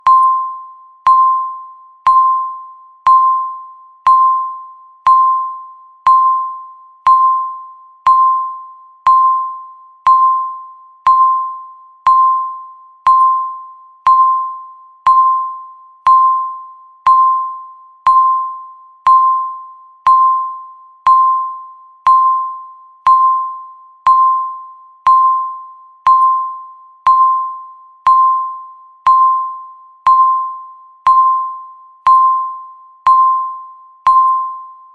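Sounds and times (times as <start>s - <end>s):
countdown timer beeping: 0.0s - 34.8s.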